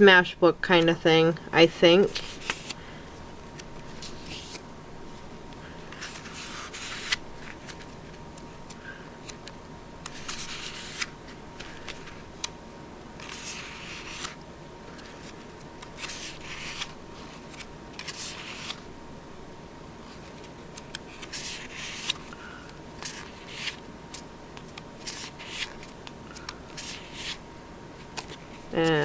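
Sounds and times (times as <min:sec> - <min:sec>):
paper pages turning: 0:02.0 - 0:03.0, 0:03.6 - 0:12.5, 0:13.2 - 0:18.8, 0:20.0 - 0:27.4, 0:28.0 - 0:29.0.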